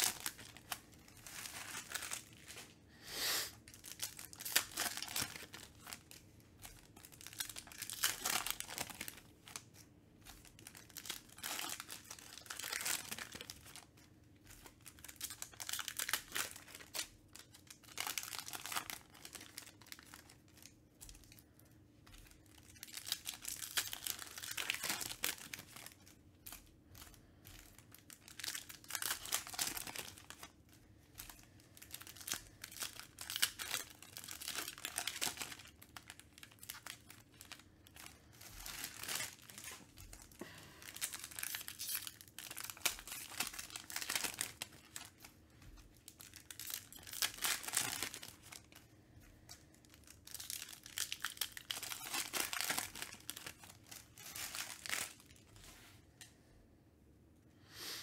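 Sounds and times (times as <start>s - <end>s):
plastic wrappers crinkling and tearing: 0.0s - 2.8s, 3.5s - 55.8s.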